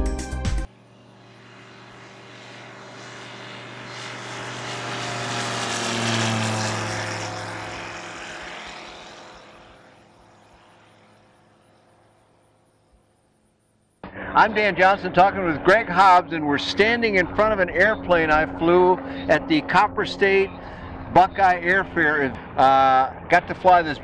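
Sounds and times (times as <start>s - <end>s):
propeller aircraft engine passing: 0.6s - 24.0s.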